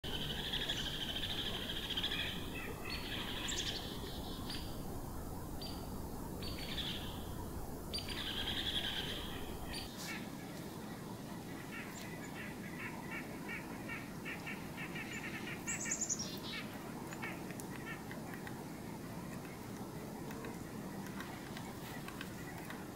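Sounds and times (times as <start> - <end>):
small birds calling: 0.0 - 22.9.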